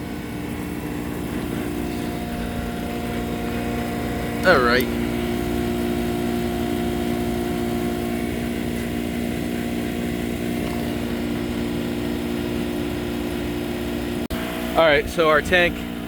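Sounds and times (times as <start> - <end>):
refrigeration motor hum: 0.0 - 16.0.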